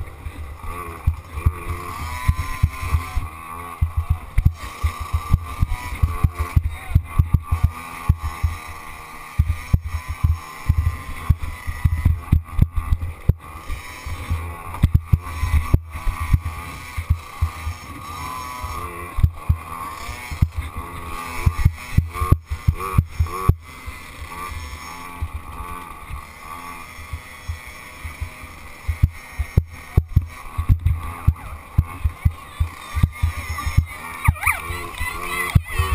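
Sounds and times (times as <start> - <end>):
dirt bike engine: 0.0 - 35.9.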